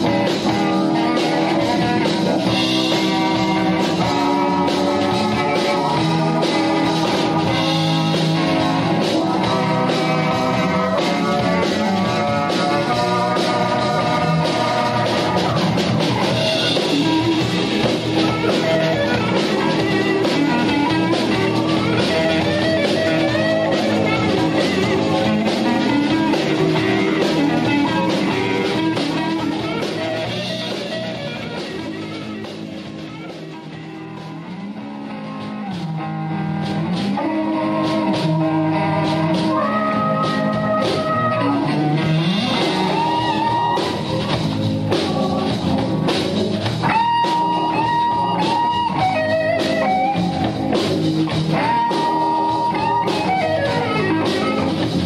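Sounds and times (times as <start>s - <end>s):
bass guitar: 0.0s - 55.0s
drum kit: 0.0s - 55.0s
electric guitar: 0.0s - 55.0s
organ: 0.0s - 55.0s.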